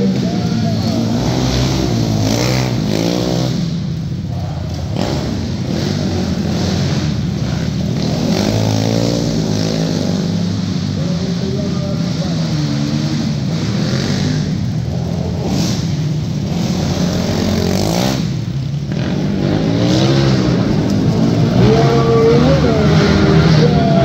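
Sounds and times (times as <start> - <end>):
quad engines revving: 0.0 - 24.0.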